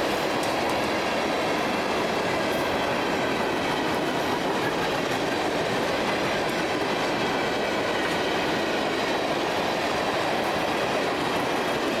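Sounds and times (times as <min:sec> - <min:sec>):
train wheels rolling on rail: 0:00.0 - 0:12.0.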